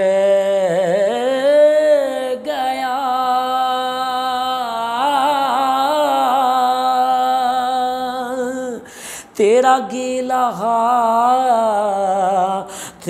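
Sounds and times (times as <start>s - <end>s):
man singing unaccompanied: 0.0s - 13.0s.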